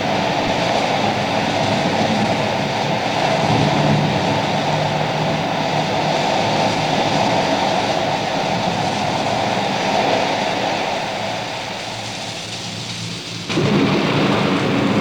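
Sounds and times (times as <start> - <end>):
steady rumbling noise: 0.0 - 15.0.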